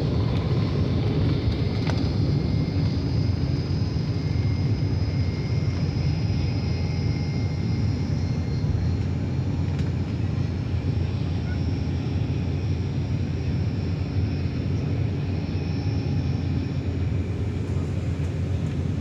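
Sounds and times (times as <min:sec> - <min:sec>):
jet engine high whine: 0:00.0 - 0:19.0
jet engines deep rumble: 0:00.0 - 0:19.0.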